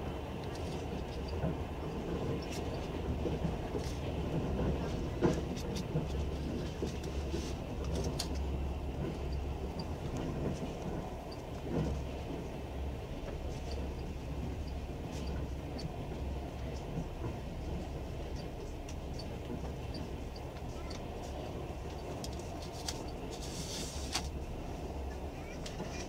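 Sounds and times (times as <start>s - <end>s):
train low rumble: 0.0s - 26.0s
wheels clicking over rail joints: 0.0s - 26.0s.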